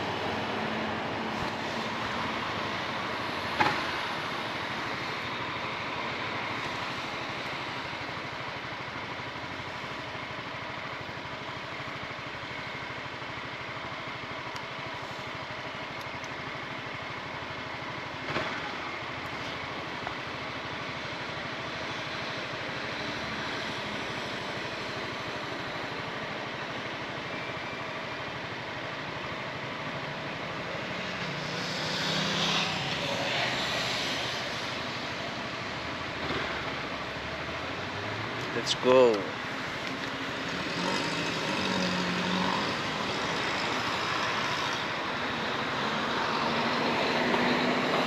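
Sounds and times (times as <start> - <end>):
road and wind noise: 0.0 - 48.0.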